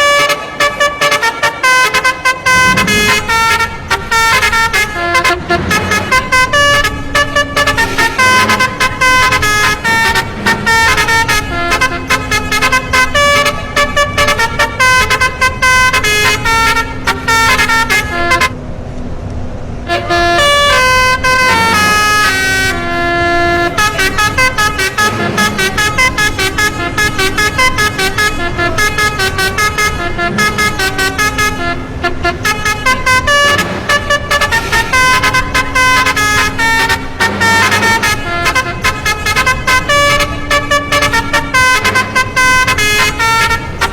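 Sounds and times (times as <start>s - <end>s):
bus horn playing melody: 0.0s - 43.9s.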